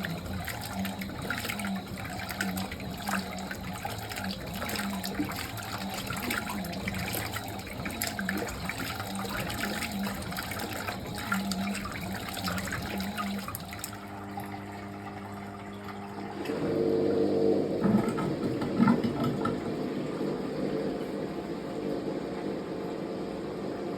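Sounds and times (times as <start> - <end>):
washing machine motor hum: 0.0 - 23.9
water splashing in washing machine: 0.0 - 23.9.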